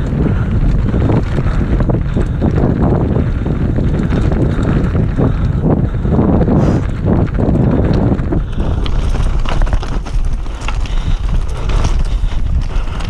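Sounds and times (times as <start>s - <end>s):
bike rattling on rough trail: 0.0s - 13.0s
wind buffeting microphone: 0.0s - 13.0s.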